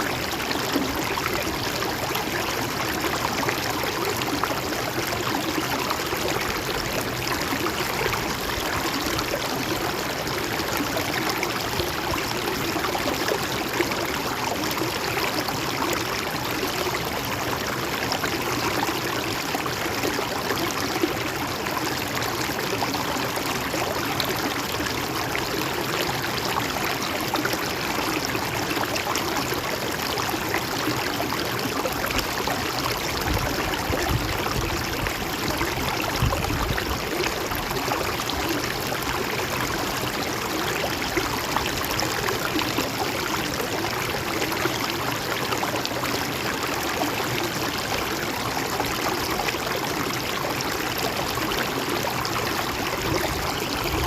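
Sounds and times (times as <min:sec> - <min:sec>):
river babbling and gurgling: 0:00.0 - 0:54.0.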